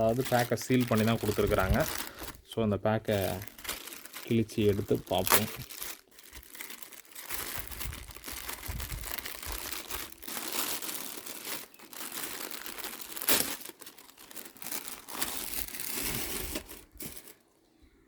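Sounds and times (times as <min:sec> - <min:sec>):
plastic bag torn and crinkled: 0:00.0 - 0:02.4, 0:03.1 - 0:17.4.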